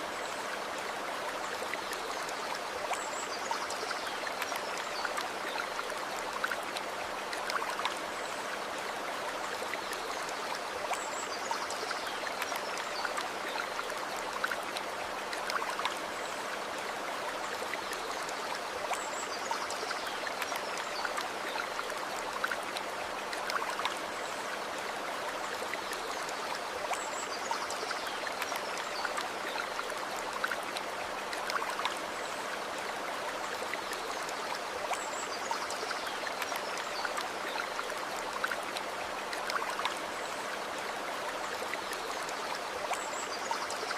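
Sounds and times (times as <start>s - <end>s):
stream babbling over stones: 0.0s - 43.9s.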